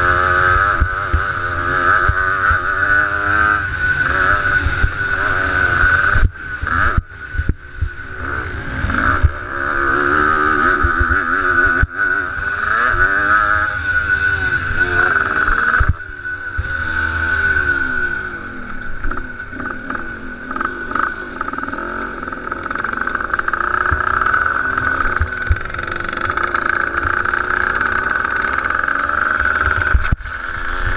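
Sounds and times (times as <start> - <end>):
motocross bike engine revving: 0.0 - 30.9.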